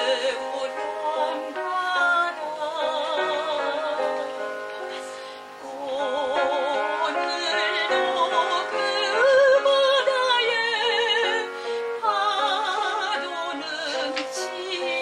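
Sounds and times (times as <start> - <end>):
piano accompaniment: 0.0 - 15.0
soprano singing operatically: 0.0 - 15.0.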